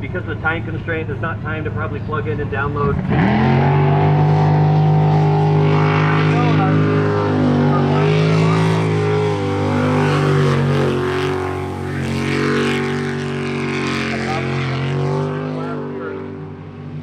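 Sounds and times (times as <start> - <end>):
boat engine running hard: 0.0 - 17.0.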